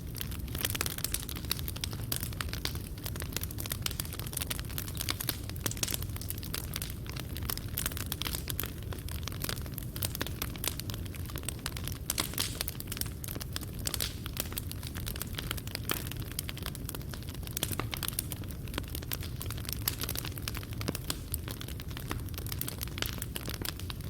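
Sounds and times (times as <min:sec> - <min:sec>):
low rumble of flames: 0:00.0 - 0:24.0
burning wood snapping and popping: 0:00.1 - 0:24.0.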